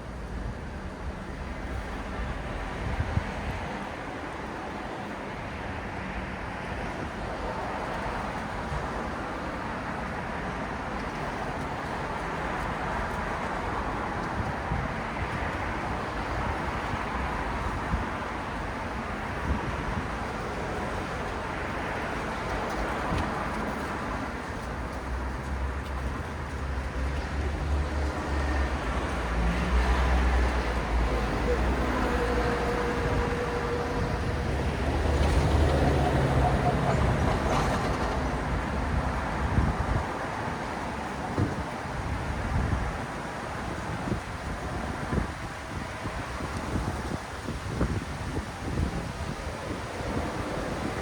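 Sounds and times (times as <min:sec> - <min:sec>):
car and tyre noise: 0:00.0 - 0:51.0.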